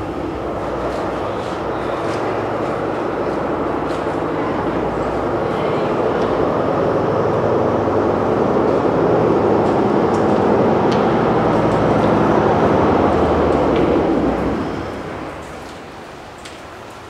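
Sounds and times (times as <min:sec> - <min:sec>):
train rumbling roar: 0:00.0 - 0:16.9.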